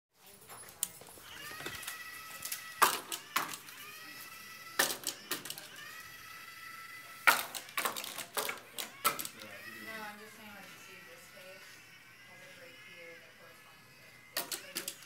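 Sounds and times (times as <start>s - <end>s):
electric motors whining: 0.8s - 15.0s.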